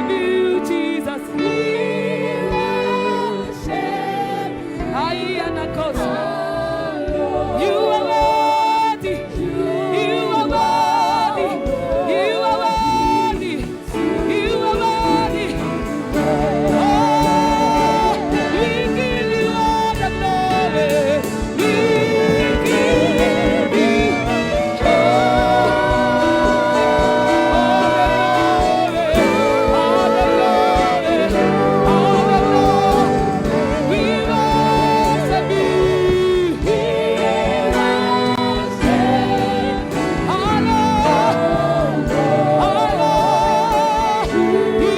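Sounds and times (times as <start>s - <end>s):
gospel singing with vibrato: 0.0s - 44.9s
sustained instrumental backing: 0.0s - 44.9s.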